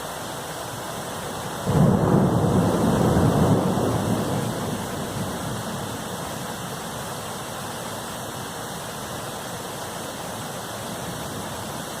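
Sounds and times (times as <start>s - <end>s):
rain pouring: 0.0s - 12.0s.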